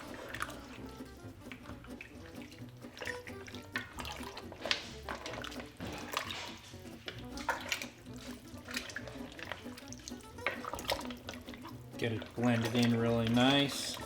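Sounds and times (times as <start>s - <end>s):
liquid splashing in a pot: 0.0s - 14.0s.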